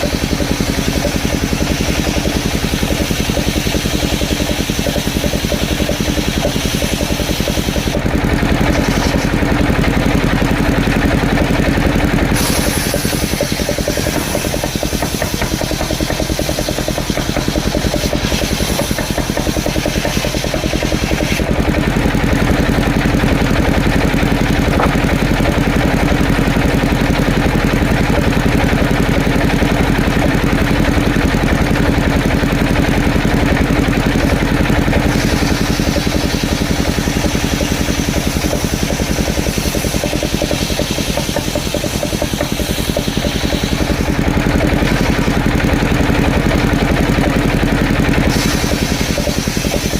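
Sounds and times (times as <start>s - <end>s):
saw engine running: 0.0s - 49.9s.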